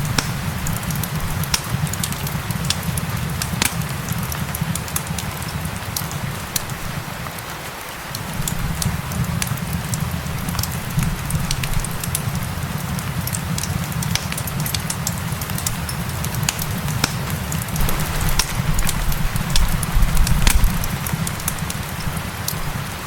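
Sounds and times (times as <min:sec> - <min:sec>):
steady rainfall: 0:00.0 - 0:23.0
wood fire crackling and popping: 0:00.0 - 0:23.0.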